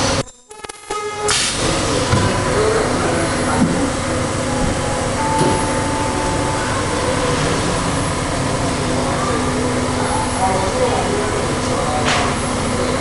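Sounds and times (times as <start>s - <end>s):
loud machinery noise: 1.2s - 13.0s
faint whine: 1.5s - 13.0s.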